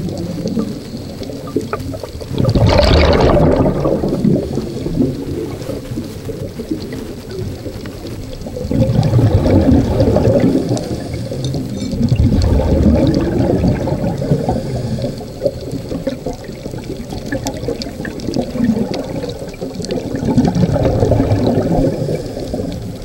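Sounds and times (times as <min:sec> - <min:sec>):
underwater bubbles gurgling: 0:00.0 - 0:23.0.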